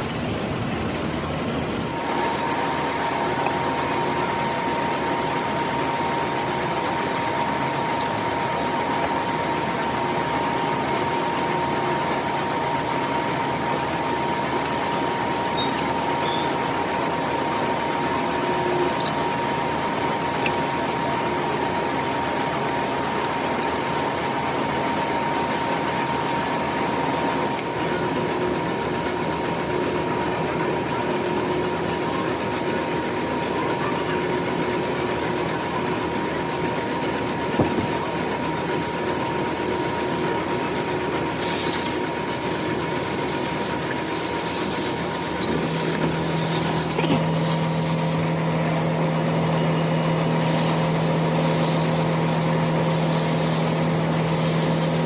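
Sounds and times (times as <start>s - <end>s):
metal lathe running: 0.1s - 55.0s.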